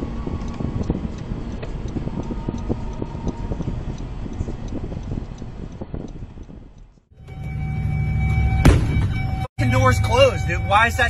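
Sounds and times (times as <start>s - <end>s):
car road and engine noise: 0.0s - 11.0s
turn signal ticking: 0.0s - 11.0s.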